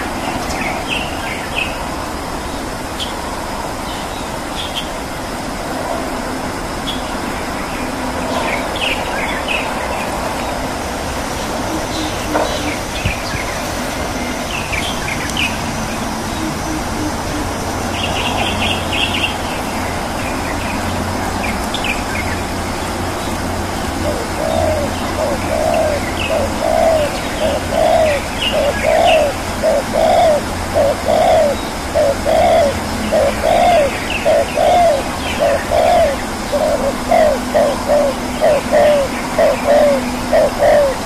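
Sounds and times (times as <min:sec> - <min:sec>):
steady rushing noise: 0:00.0 - 0:41.0.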